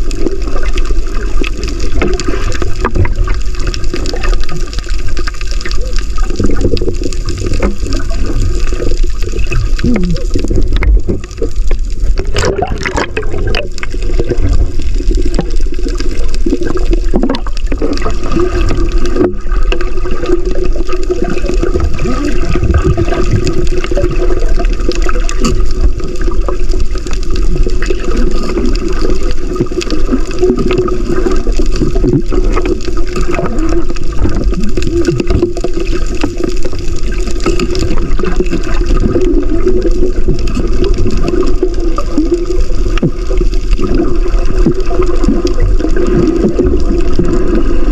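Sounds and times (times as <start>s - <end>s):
bubbling burst: 0.0s - 47.9s
muffled underwater water rush: 0.0s - 47.9s
underwater clicks: 0.0s - 47.9s.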